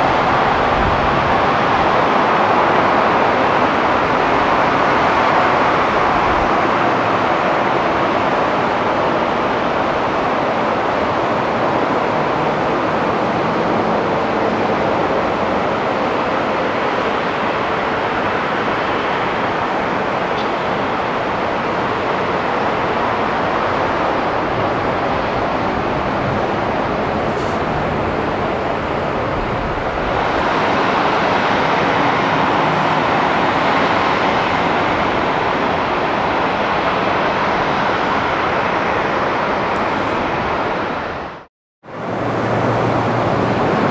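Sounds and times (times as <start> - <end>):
distant jet engines roaring: 0.0 - 43.9.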